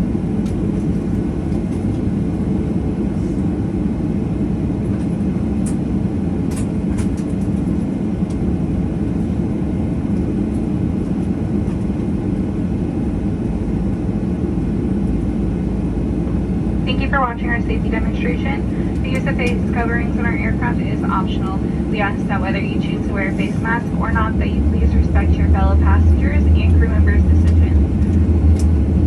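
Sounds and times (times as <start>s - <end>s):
aircraft cabin low rumble: 0.0s - 29.0s.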